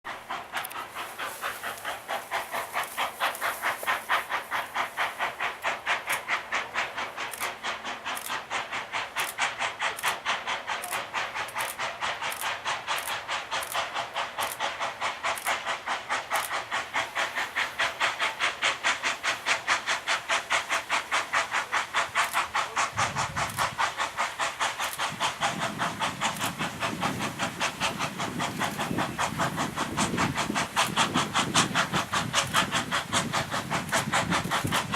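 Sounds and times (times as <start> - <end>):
steam locomotive chuffing: 0.0 - 34.9.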